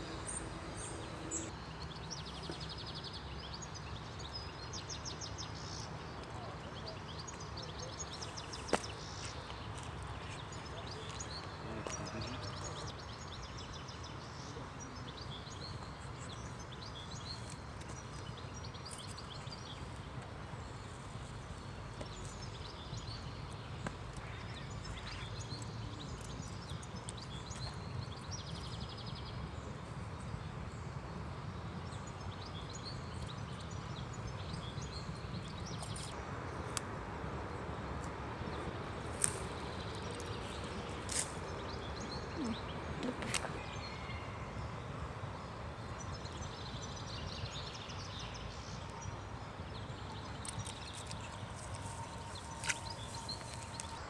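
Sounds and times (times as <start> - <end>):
birds chirping: 0.0 - 29.7, 31.7 - 54.0.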